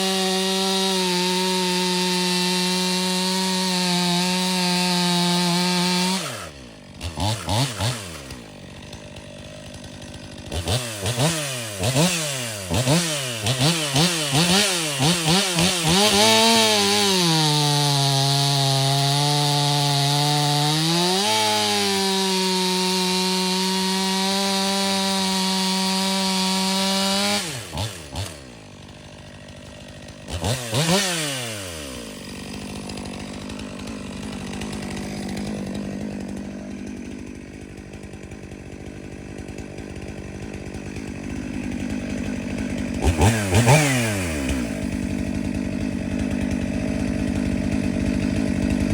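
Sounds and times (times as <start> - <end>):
chainsaw revving and cutting: 0.0 - 48.9.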